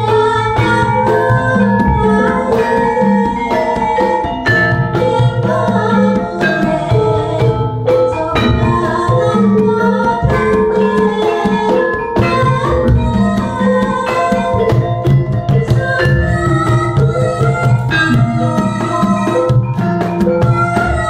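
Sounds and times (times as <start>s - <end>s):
gongs: 0.0s - 21.0s
hand drum strokes: 0.0s - 21.0s
metallophones ringing melody: 0.0s - 21.0s.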